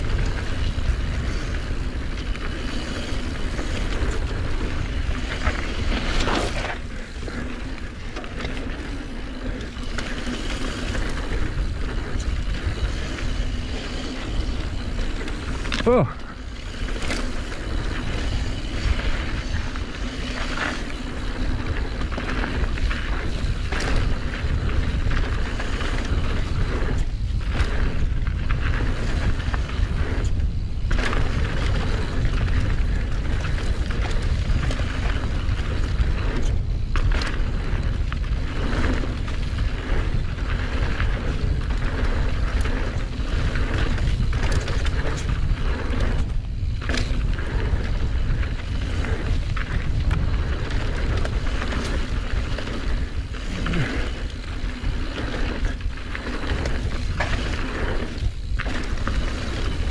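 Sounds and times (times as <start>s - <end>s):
bike rattling over bumps: 0.0s - 59.9s
bike tyre noise: 0.0s - 59.9s
wind rumbling on microphone: 0.0s - 59.9s.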